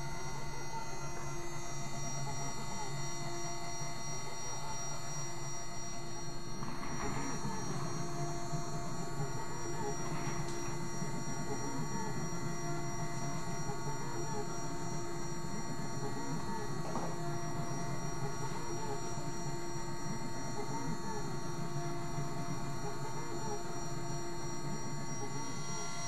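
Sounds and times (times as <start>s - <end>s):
motor tones wavering: 0.0s - 26.0s
spindle hum and whine: 0.0s - 26.0s.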